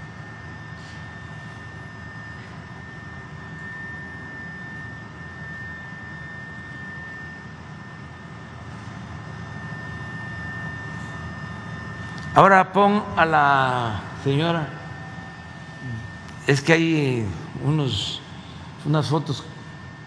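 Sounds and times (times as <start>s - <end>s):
aircraft engine drone: 0.0s - 20.0s
thin high whine: 0.0s - 20.0s.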